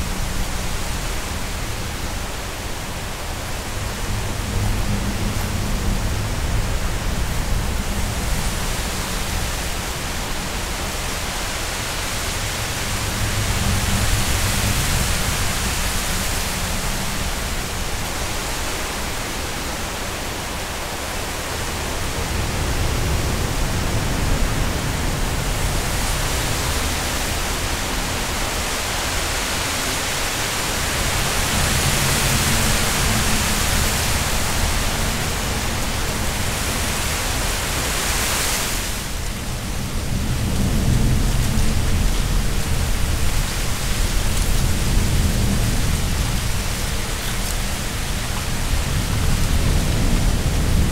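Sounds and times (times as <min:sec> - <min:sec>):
wind gusting through reeds: 0:00.0 - 0:50.9
wind rumble on microphone: 0:00.0 - 0:50.9.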